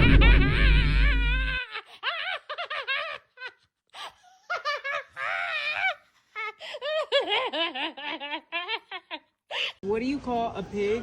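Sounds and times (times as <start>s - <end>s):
high-pitched laughter: 0.0s - 9.4s.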